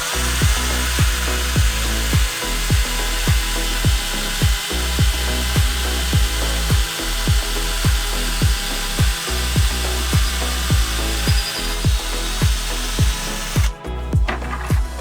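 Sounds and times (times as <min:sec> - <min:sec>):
metalworking tool hiss: 0:00.0 - 0:15.0
music with thumping beat: 0:00.0 - 0:15.0.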